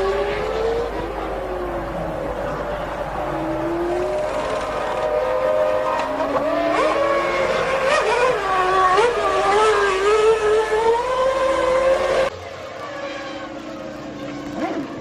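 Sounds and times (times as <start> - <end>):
racing car engine revving: 0.0 - 12.3.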